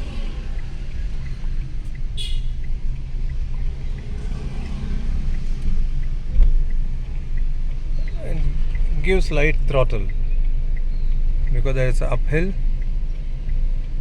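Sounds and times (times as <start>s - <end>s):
car engine and road rumble: 0.0s - 14.0s
faint regular ticking: 0.0s - 14.0s.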